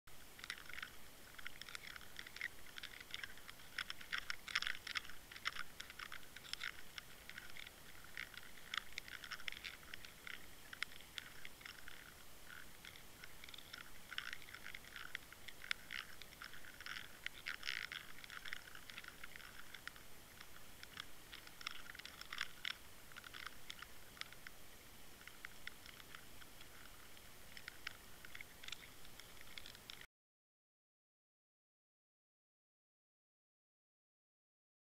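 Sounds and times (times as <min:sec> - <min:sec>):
underwater crackling clicks: 0:00.1 - 0:30.1.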